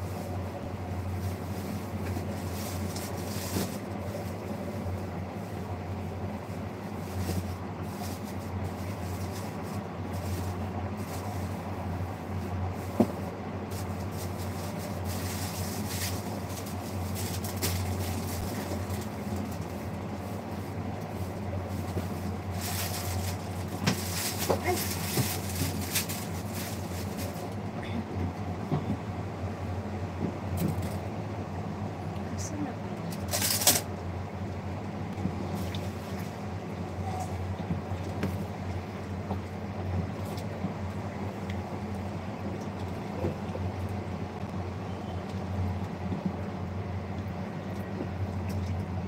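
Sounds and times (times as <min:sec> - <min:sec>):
noisy background: 0:00.0 - 0:49.0
steady low hum: 0:00.0 - 0:49.0.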